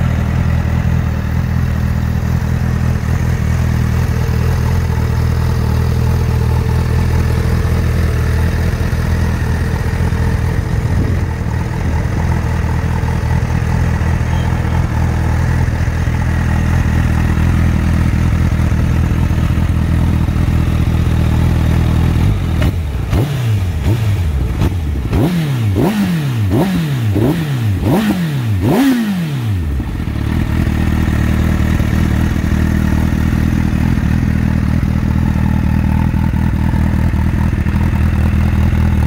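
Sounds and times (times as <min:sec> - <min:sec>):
motorcycle engine idling: 0:00.0 - 0:39.0
motorcycle throttle blips: 0:00.3 - 0:39.0.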